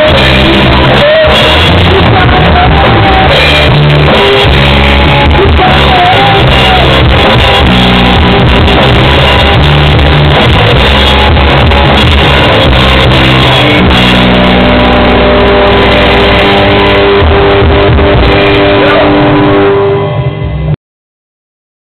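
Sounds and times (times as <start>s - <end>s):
rock band playing: 0.0s - 20.8s.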